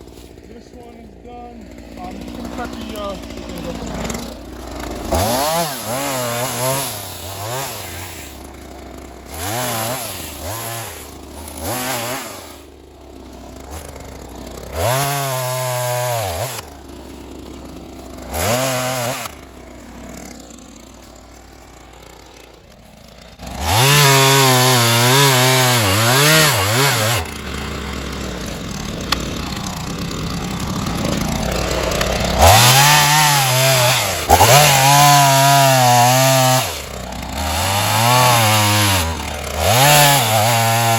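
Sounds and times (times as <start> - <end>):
chainsaw cutting tree trunk: 0.0 - 40.9
chainsaw revving and idling: 0.0 - 40.9.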